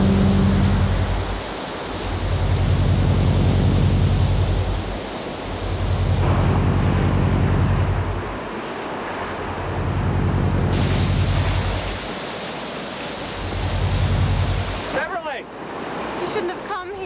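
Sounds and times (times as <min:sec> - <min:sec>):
steady low hum: 0:00.0 - 0:15.0
ocean surf washing in: 0:00.0 - 0:17.0.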